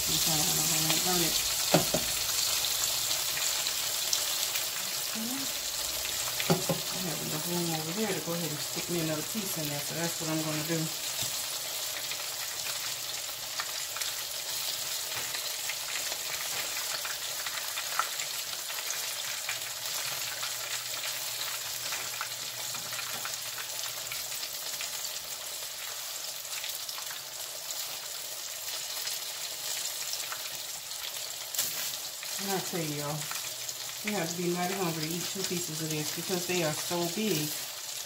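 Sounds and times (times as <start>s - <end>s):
fish frying in hot oil: 0.0s - 38.0s.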